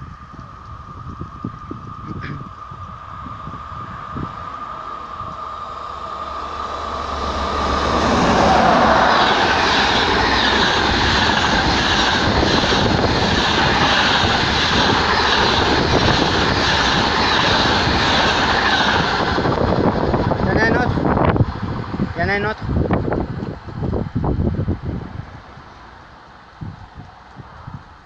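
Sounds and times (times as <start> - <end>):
steel wheels rushing on rail: 0.0 - 28.0.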